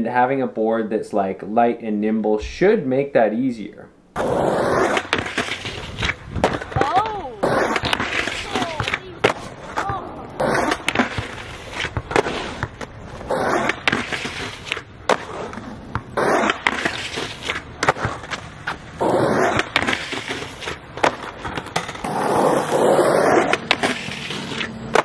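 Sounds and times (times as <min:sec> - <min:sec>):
skateboard slapping down: 0:04.2 - 0:25.0
skateboard tail clacks: 0:04.2 - 0:25.0
skateboard wheels rolling and scraping: 0:04.2 - 0:25.0.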